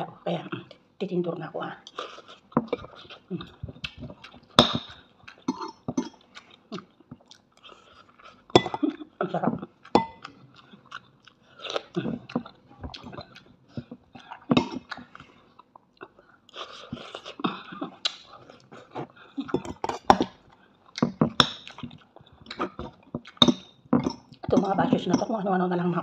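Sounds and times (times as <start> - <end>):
person chewing food: 1.8 - 25.1.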